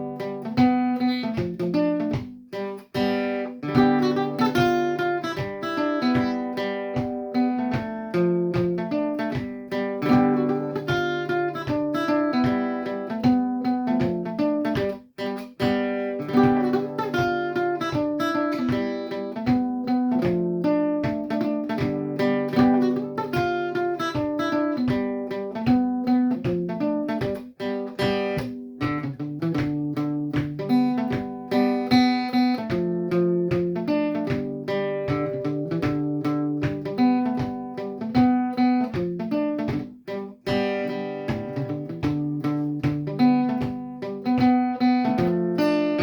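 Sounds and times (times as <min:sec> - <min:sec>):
plucked string folk tune: 0:00.0 - 0:46.0.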